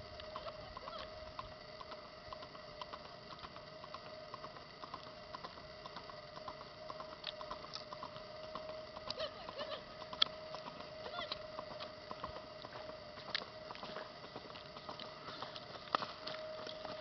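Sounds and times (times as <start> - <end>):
steady faint hum: 0.0 - 17.0.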